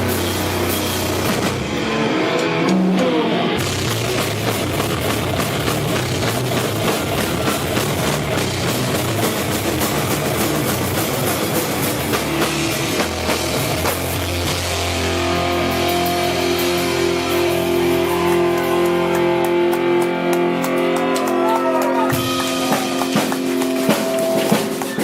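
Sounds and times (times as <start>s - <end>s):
drum kit: 0.0s - 25.0s
electric guitars: 0.0s - 25.0s.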